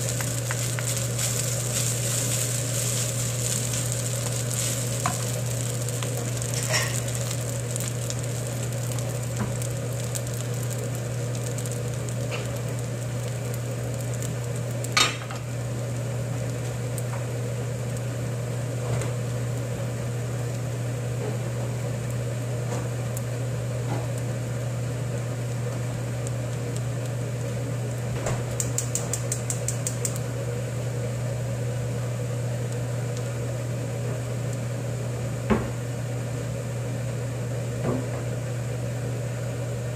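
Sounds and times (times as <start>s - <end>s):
rice sizzling in a frying pan: 0.0s - 39.9s.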